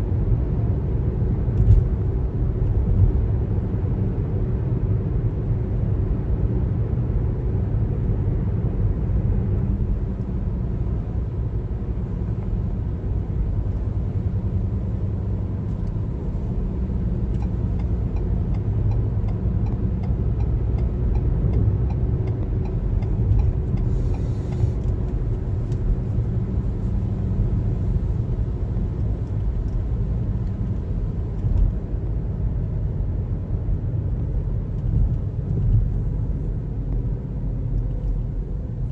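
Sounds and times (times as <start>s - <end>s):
car road noise on highway: 0.0s - 38.9s.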